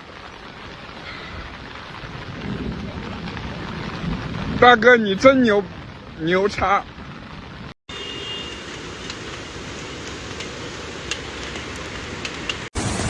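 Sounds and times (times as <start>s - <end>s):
heavy rain and floodwater rushing: 0.0s - 13.0s.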